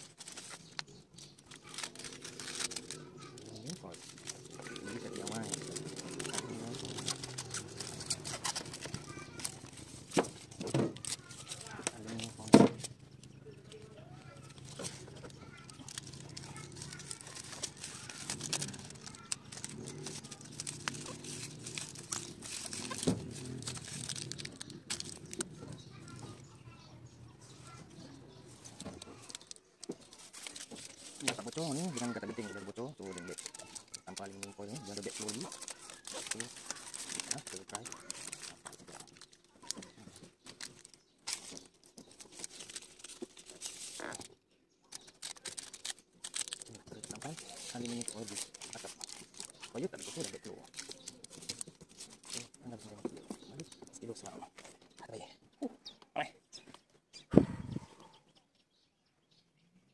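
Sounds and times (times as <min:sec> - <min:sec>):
paper backing rustling: 0:00.0 - 0:26.5, 0:27.5 - 0:54.8
foil tape crinkling: 0:00.0 - 0:26.6, 0:27.5 - 0:55.0.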